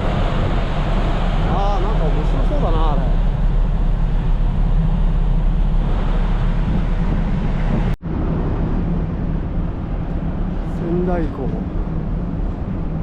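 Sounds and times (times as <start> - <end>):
ferry engine rumble: 0.0 - 13.0
wind buffeting microphone: 0.0 - 13.0.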